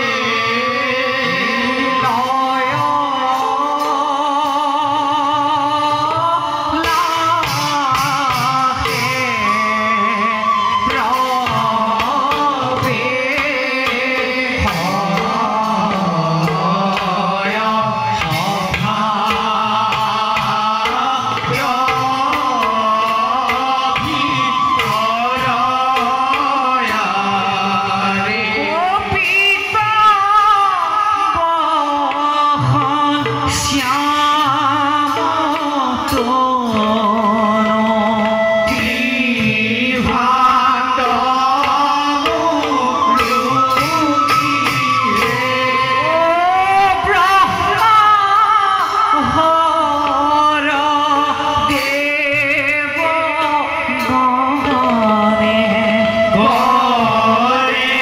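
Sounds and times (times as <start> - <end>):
hand drum pattern: 0.0 - 58.0
person singing devotional song: 0.0 - 58.0.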